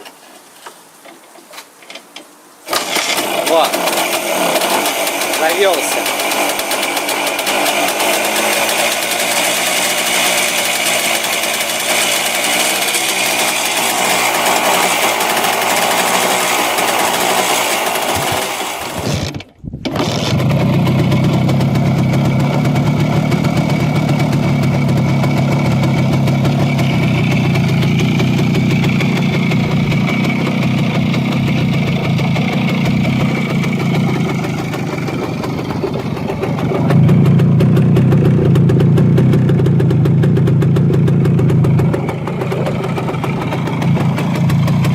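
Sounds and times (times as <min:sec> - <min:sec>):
motorcycle engine running: 0:02.8 - 0:44.9
deeper motorcycle engine running: 0:03.3 - 0:44.9.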